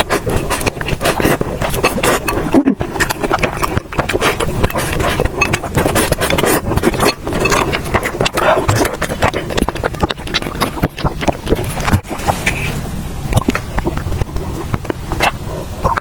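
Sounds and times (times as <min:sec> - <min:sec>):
chewing with wet clicks: 0:00.0 - 0:12.6, 0:13.3 - 0:16.0.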